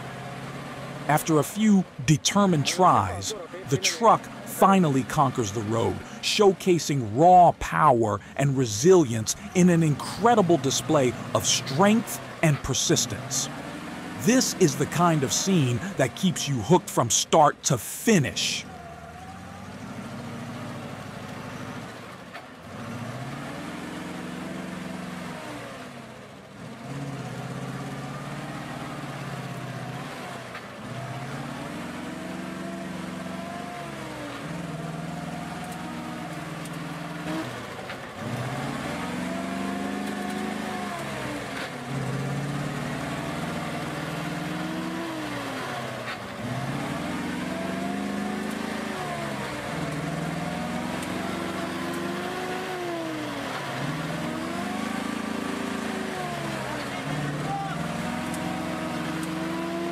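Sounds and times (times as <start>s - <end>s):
vehicle engine revving: 0.0s - 59.9s.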